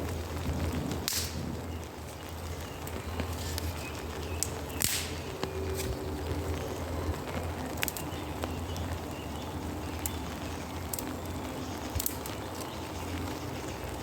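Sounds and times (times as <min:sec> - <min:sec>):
steady rain: 0:00.0 - 0:14.0
drips tapping on tarp: 0:00.8 - 0:14.0.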